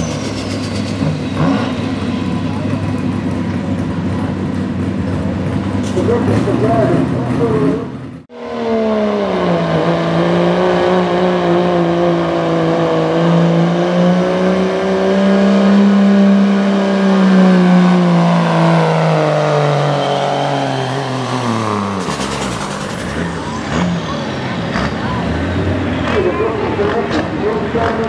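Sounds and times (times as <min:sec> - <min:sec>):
diesel truck engine at high revs: 0:00.0 - 0:28.0.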